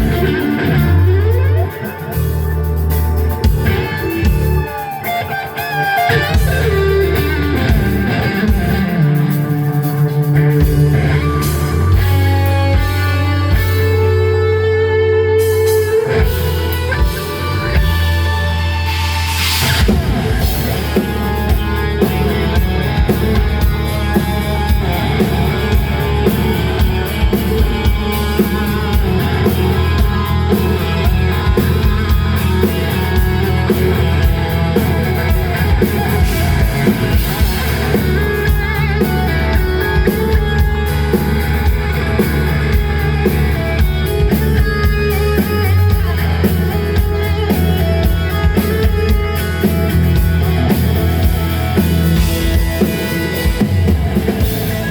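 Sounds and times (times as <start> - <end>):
drum kit beat: 0.0 - 54.9
electric guitar: 0.0 - 54.9.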